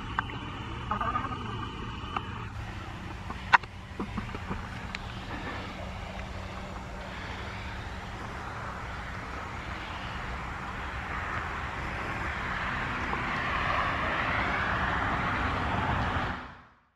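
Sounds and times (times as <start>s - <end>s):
warning siren steady tone: 0.0s - 16.6s.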